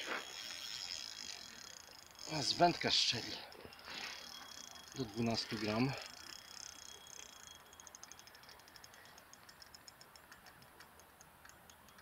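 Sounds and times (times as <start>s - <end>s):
fishing reel ticking: 0.0s - 12.0s.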